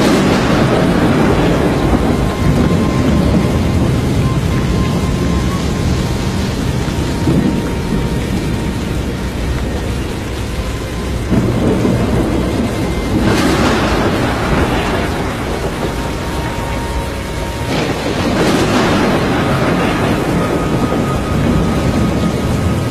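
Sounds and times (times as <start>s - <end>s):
wind and rain rumble: 0.0s - 22.9s.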